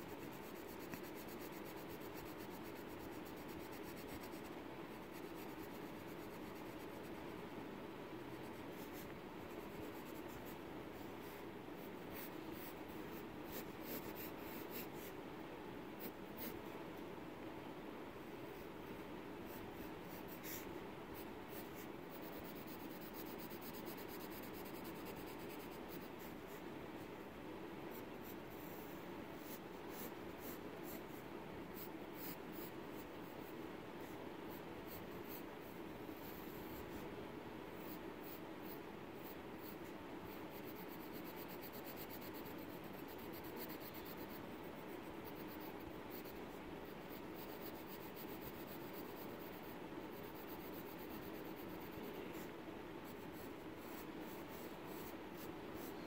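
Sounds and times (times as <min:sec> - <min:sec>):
pencil scratching on paper: 0:00.0 - 0:07.3, 0:08.3 - 0:10.6, 0:11.2 - 0:15.2, 0:19.5 - 0:26.6, 0:27.9 - 0:31.2, 0:31.8 - 0:35.5, 0:37.8 - 0:56.0.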